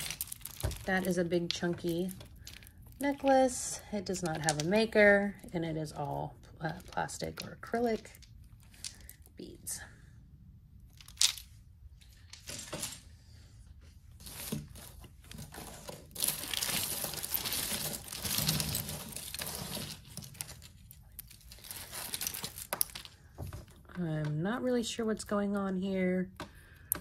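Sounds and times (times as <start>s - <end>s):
rustling and crinkling: 0.0s - 9.4s, 10.8s - 24.4s.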